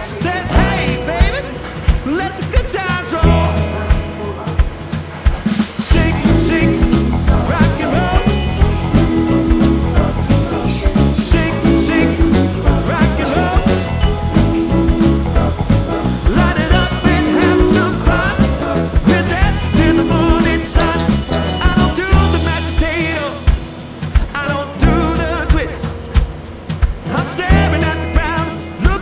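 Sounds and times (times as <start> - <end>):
upbeat background music: 0.0 - 29.0.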